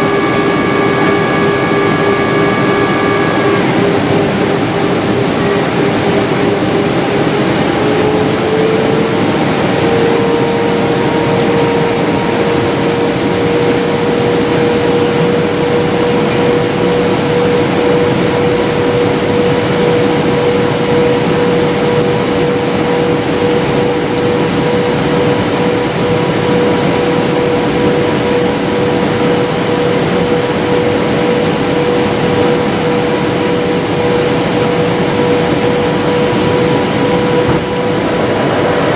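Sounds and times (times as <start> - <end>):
jet airliner cabin noise: 0.0 - 38.9.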